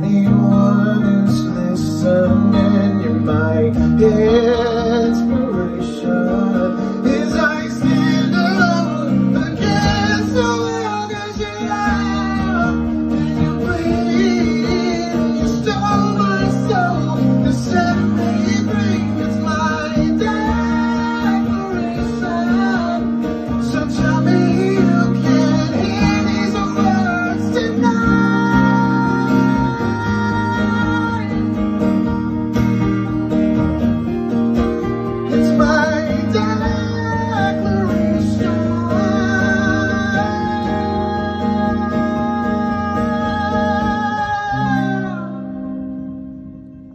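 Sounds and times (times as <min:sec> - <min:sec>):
man singing: 0:00.0 - 0:31.8, 0:35.2 - 0:46.1
acoustic guitar strumming: 0:00.0 - 0:46.9.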